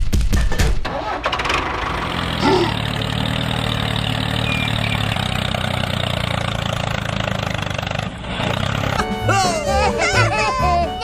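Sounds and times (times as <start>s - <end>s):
engine idling: 0.9s - 11.0s.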